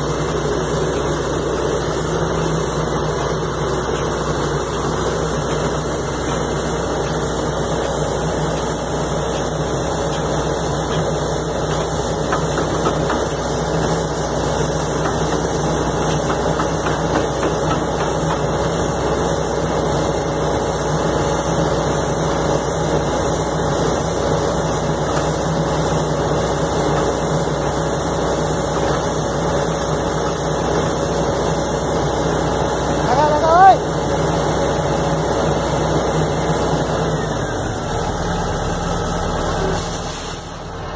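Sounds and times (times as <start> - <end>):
drilling rig engine and hydraulics: 0.0 - 40.9.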